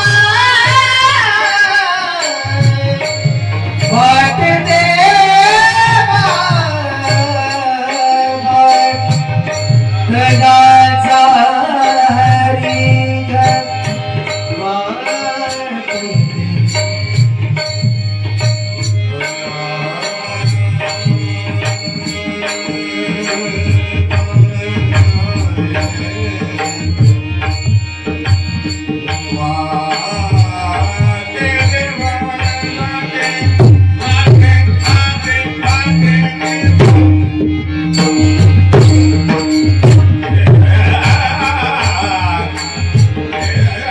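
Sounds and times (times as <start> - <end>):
tabla drumming: 0.0 - 43.9
sustained melody line: 2.2 - 43.9.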